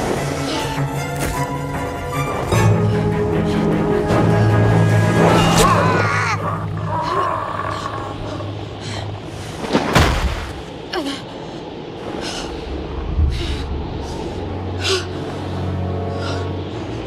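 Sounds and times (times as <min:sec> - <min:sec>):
low musical drone: 0:00.0 - 0:09.7, 0:10.6 - 0:17.0.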